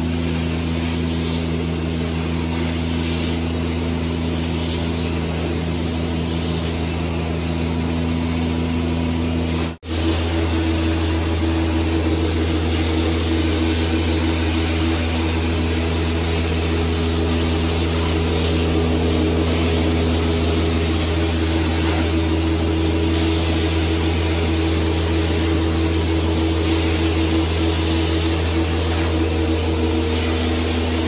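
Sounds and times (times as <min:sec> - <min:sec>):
carpet cleaning machine hum: 0:00.0 - 0:31.0.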